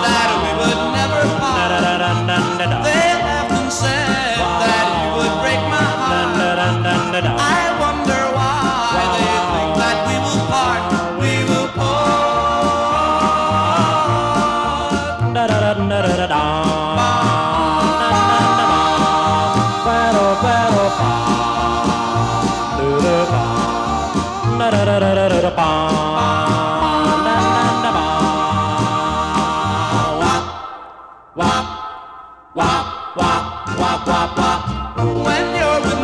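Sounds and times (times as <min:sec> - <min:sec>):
bass line: 0:00.0 - 0:30.7, 0:32.6 - 0:36.0
drums: 0:00.0 - 0:30.8, 0:32.6 - 0:36.0
vocal group singing harmonies: 0:00.0 - 0:36.0.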